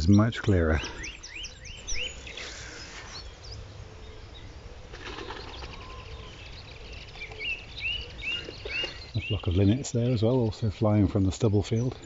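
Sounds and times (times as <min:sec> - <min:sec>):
song thrush singing: 0:00.0 - 0:12.0.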